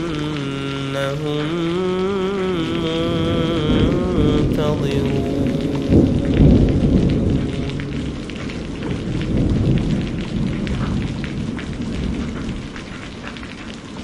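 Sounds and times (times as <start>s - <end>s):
steady rain: 0.0s - 14.0s
rolling thunder rumble: 1.5s - 14.0s.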